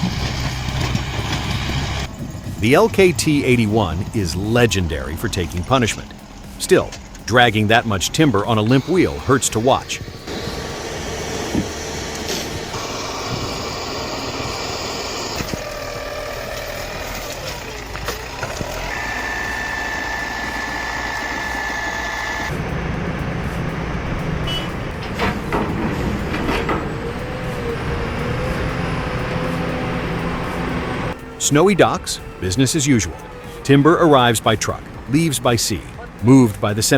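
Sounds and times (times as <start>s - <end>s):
heavy machine engines running: 0.0s - 36.9s
steady high whine: 2.0s - 16.6s, 17.8s - 35.1s.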